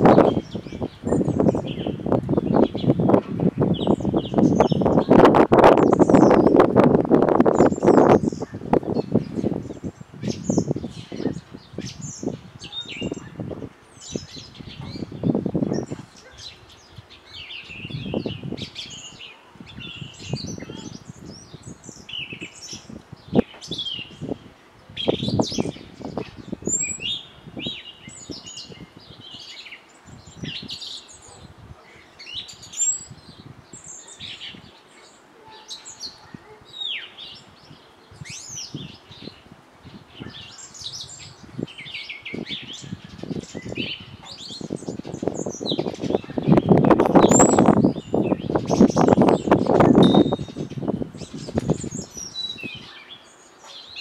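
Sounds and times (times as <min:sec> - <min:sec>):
high bird chirps and twitters: 0:00.0 - 0:24.4, 0:25.0 - 0:31.4, 0:32.2 - 0:54.0.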